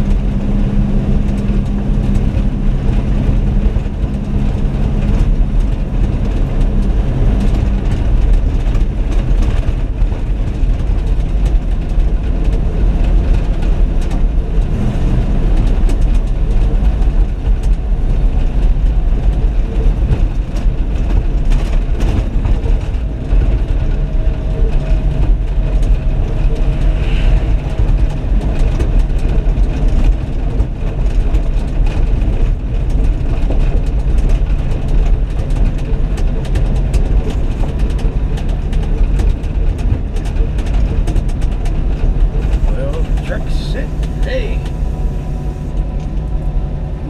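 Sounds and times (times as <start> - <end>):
truck engine drone: 0.0 - 47.0.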